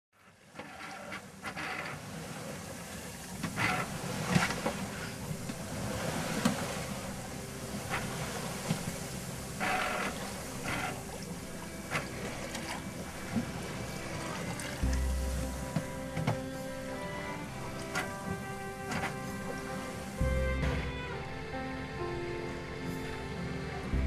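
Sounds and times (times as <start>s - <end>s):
waves splashing against hull: 0.2s - 24.0s
wind and water rushing: 0.2s - 24.0s.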